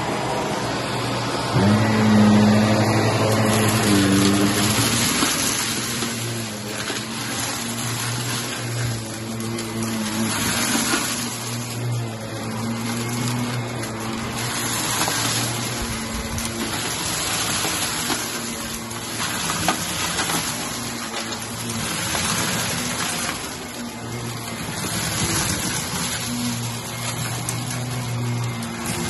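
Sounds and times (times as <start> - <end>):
vacuum cleaner running over carpet: 0.0 - 29.0
debris rattling in vacuum: 1.0 - 29.0.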